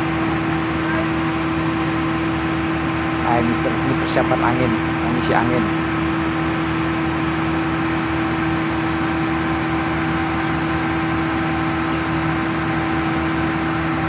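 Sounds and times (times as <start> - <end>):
air compressor humming: 0.0 - 14.0.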